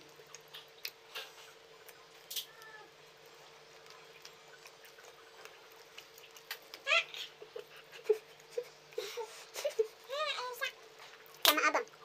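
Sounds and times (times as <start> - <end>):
chewing and lip smacks: 0.0 - 10.1
faint steady hum: 0.0 - 12.0.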